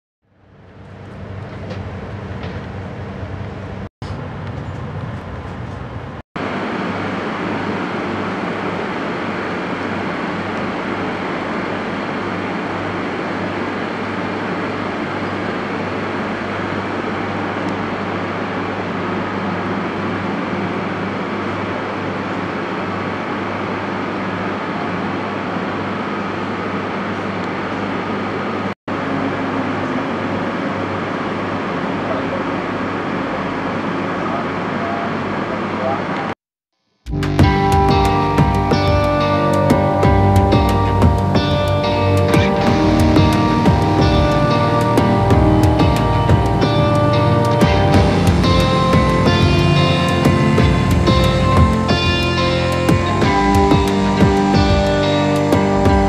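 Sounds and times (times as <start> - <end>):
high-speed train rumbling: 0.5 - 36.3, 37.4 - 56.0.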